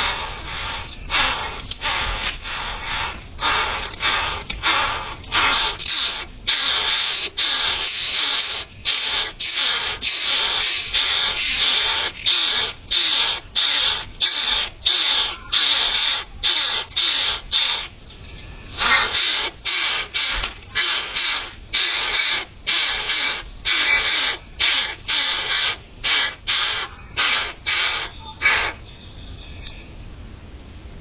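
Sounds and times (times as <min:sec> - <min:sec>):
coucal harsh rasping calls: 0:00.0 - 0:18.0, 0:18.7 - 0:28.9.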